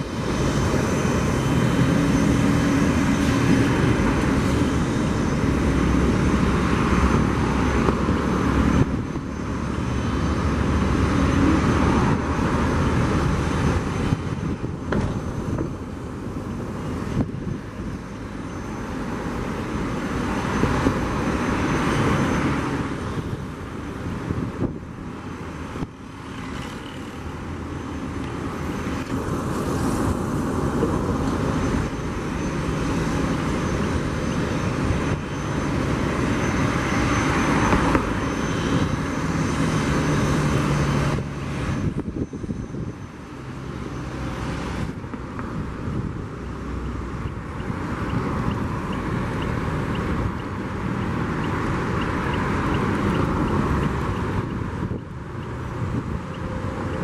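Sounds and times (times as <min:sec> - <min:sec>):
jet engines rumbling: 0:00.0 - 0:57.0.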